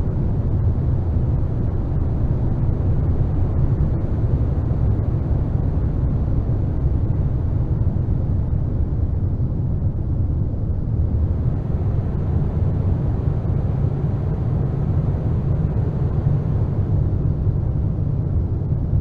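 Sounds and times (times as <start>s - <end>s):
low rumbling noise drone: 0.0s - 19.0s.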